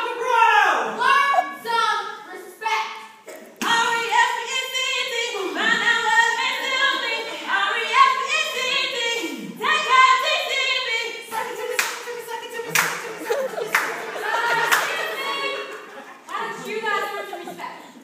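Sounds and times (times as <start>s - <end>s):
girls singing a cappella: 0.9s - 18.0s.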